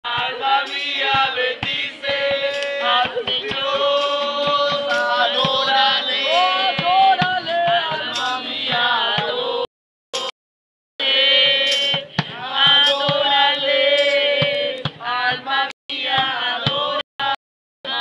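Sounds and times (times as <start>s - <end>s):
voices singing together: 0.0s - 10.4s, 11.0s - 18.0s.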